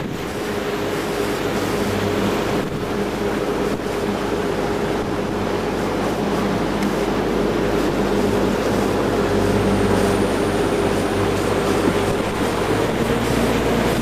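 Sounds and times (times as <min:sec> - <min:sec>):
motorboat engine running: 0:00.0 - 0:14.0
water and wind rushing: 0:00.0 - 0:14.0.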